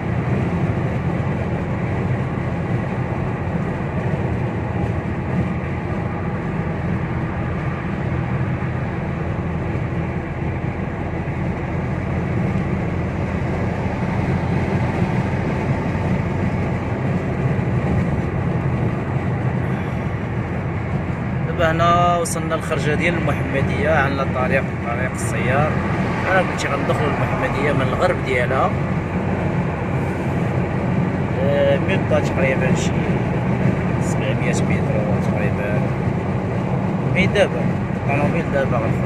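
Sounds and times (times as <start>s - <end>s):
car cabin road and engine noise: 0.0s - 39.0s.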